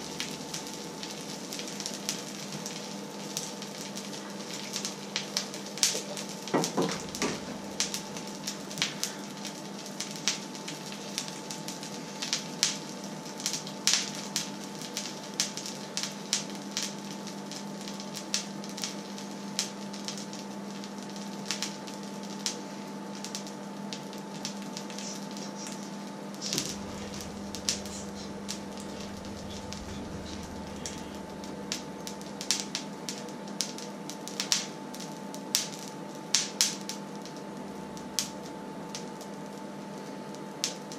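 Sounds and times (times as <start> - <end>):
steady hum: 0.0 - 15.4, 21.9 - 40.6
oil crackling in a pan: 0.0 - 40.9.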